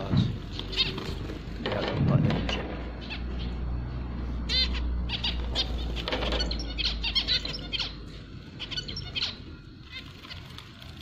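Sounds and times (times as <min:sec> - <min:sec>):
zebra finch singing: 0:00.0 - 0:11.0.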